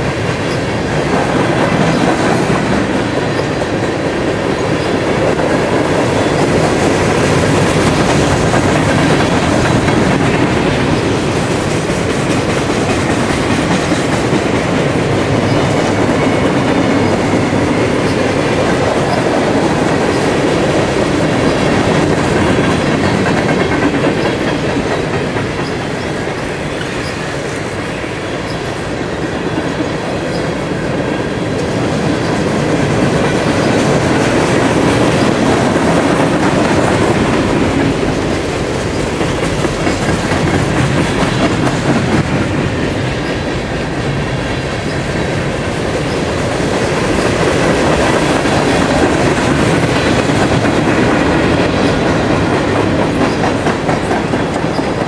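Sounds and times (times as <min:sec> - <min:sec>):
freight train wheels clattering on rail: 0:00.0 - 0:55.0.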